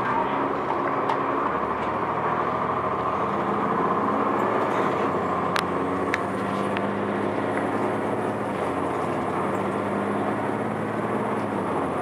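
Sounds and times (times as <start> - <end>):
bus diesel engine running: 0.0 - 12.0
road noise: 0.0 - 12.0.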